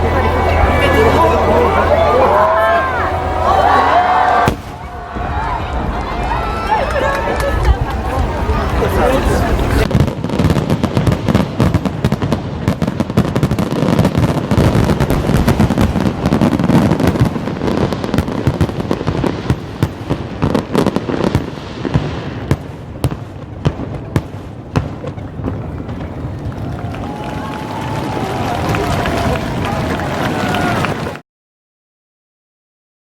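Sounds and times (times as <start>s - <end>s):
fireworks bangs and crackling: 0.0s - 31.2s.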